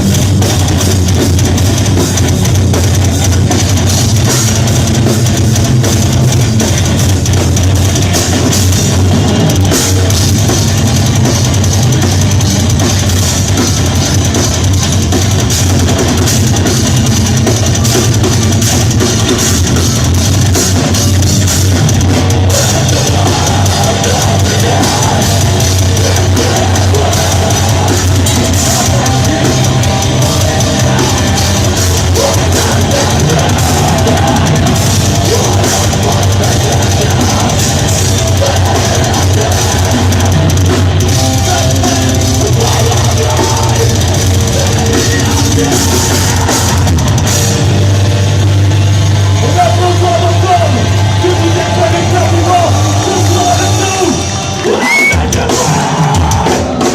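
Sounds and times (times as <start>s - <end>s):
distorted electric guitars: 0.0s - 56.9s
drum kit: 0.0s - 56.9s.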